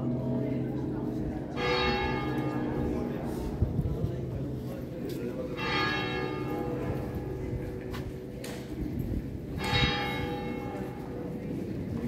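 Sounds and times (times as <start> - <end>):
large bell tolling: 1.4 - 11.8.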